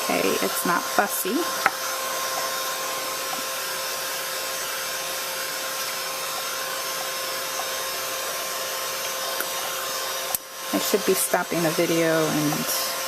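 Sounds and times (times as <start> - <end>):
heat gun running: 0.0 - 13.0.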